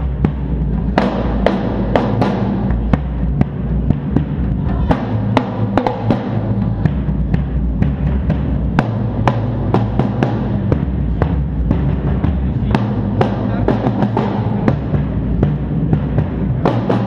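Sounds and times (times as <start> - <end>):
drum kit playing: 0.0 - 17.0
steady low bass: 0.0 - 17.0.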